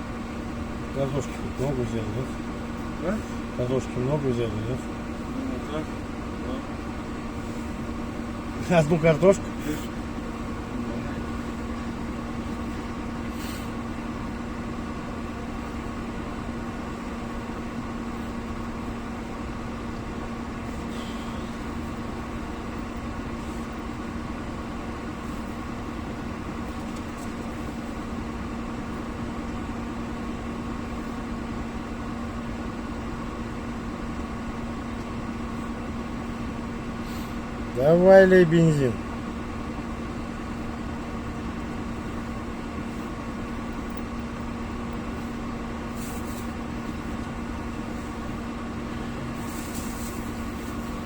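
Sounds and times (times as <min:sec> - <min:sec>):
engine idling hum: 0:00.0 - 0:51.0.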